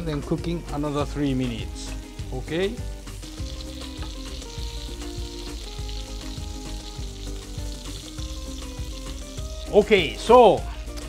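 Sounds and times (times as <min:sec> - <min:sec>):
meat sizzling in a frying pan: 0:01.2 - 0:11.0.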